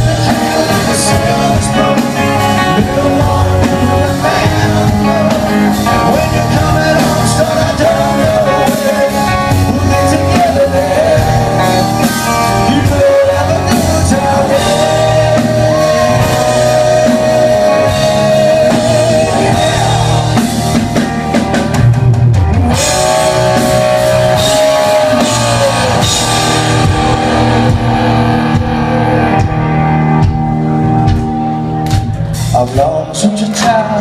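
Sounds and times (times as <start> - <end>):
drums: 0.0 - 34.0
lead electric guitar bending notes: 0.0 - 34.0
rhythm guitar: 0.0 - 34.0.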